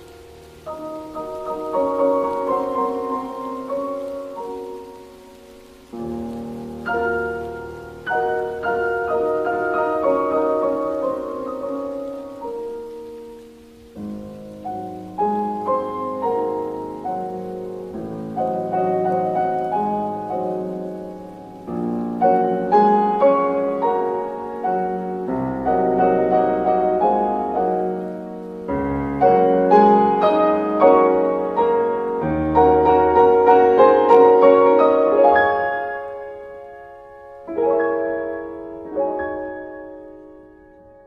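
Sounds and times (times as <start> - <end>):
solo piano music: 0.0 - 41.0
steady rain: 0.0 - 41.0.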